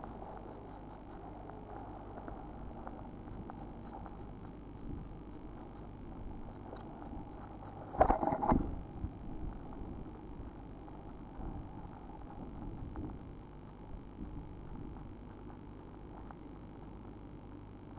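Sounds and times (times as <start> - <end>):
nestlings high-pitched begging calls: 0.0 - 16.3.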